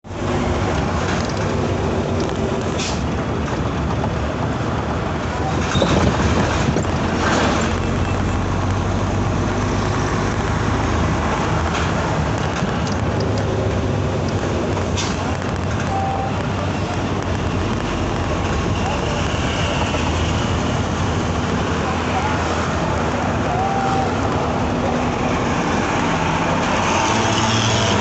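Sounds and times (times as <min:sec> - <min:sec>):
road noise: 0:00.0 - 0:28.0
truck diesel engine running: 0:00.0 - 0:28.0.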